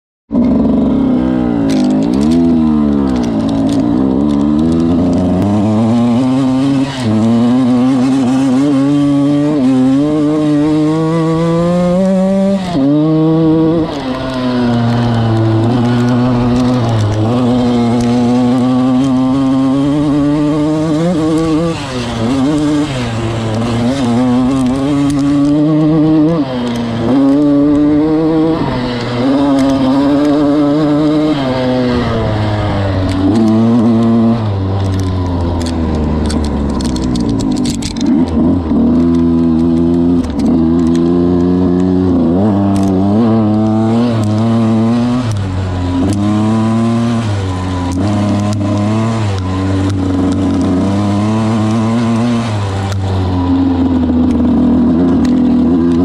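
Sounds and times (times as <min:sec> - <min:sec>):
dirt bike engine revving: 0:00.3 - 0:56.0.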